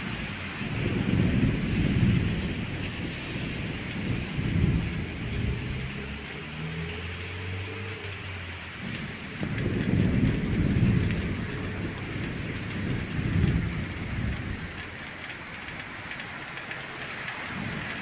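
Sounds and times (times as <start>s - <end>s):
low thunder rumbling: 0.0s - 18.0s
rain hiss: 0.0s - 18.0s.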